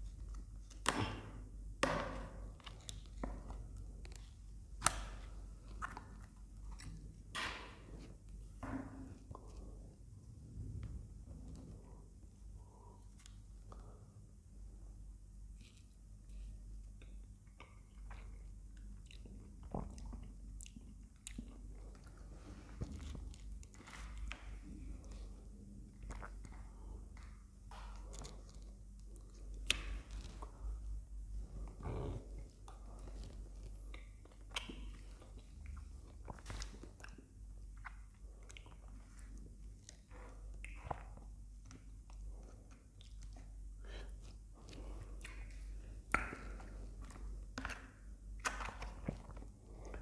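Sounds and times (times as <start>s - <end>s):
wet chewing and mouth sounds: 2.2s - 14.2s, 15.4s - 50.0s.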